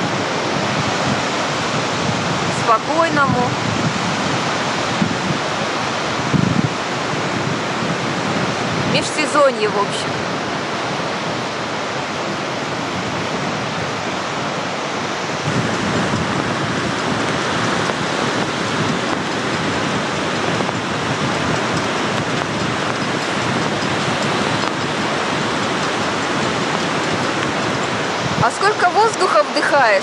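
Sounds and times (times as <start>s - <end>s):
surf breaking on shore: 0.0s - 30.0s
wind buffeting microphone: 0.0s - 30.0s.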